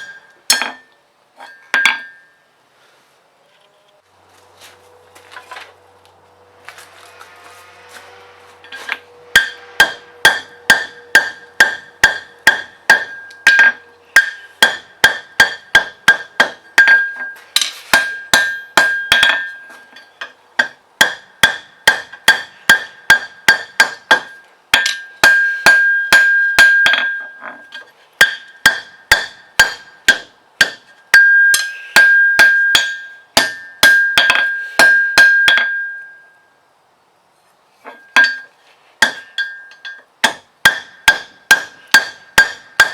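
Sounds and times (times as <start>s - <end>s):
hammer striking steel on anvil: 0.0s - 2.4s, 8.6s - 36.4s, 37.9s - 42.9s.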